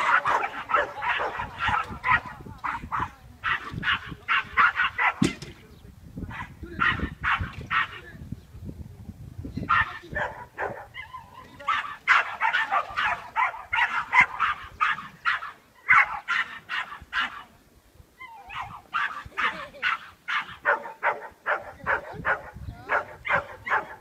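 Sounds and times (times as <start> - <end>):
dog barking: 0.0 - 5.2, 6.3 - 8.0, 9.7 - 17.5, 18.5 - 24.0.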